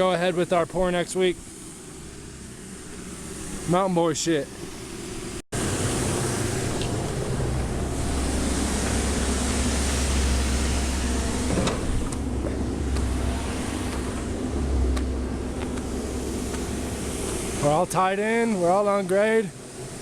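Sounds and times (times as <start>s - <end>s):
engine running with low rumble: 0.0s - 20.0s.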